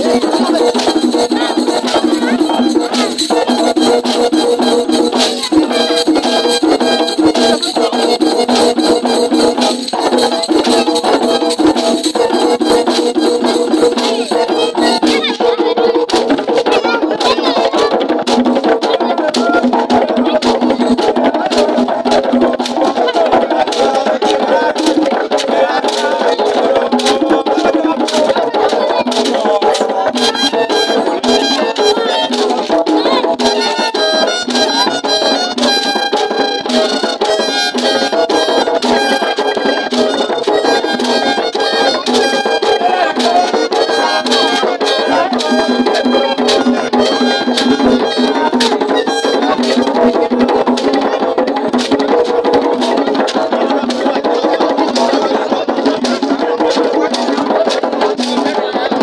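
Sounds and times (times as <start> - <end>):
hand drums: 0.0 - 59.0.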